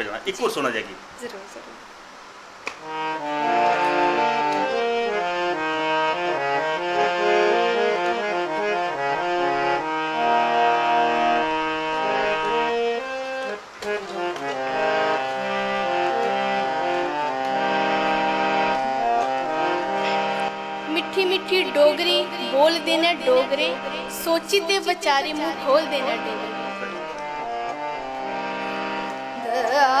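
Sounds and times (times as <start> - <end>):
harmonium playing melody: 2.6 - 30.0.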